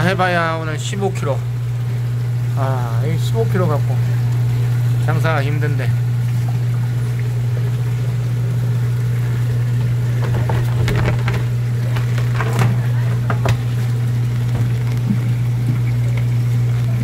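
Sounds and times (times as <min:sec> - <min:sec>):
water pump humming: 0:00.0 - 0:17.0.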